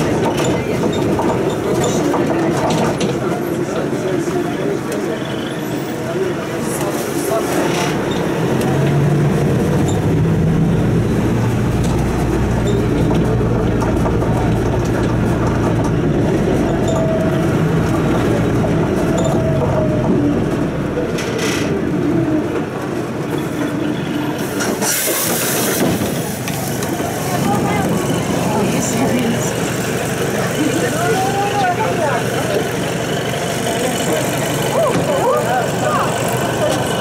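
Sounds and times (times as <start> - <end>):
bus diesel engine running: 0.0 - 37.0
tyres rumbling over cobblestones: 0.0 - 37.0.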